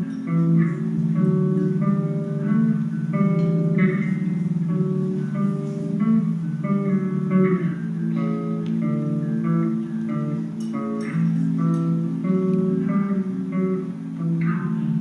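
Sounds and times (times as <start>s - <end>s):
guitar playing melodic licks: 0.0s - 15.0s.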